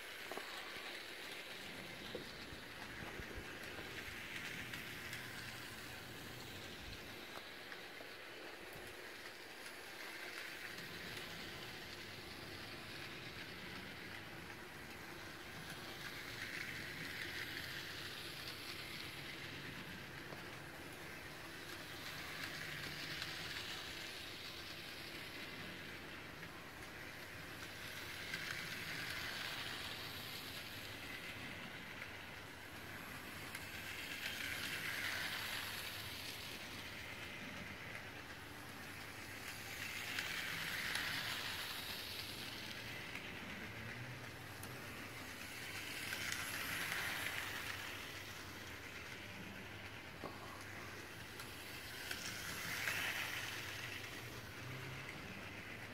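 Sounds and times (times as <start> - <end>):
toy train running on track: 0.0 - 55.9.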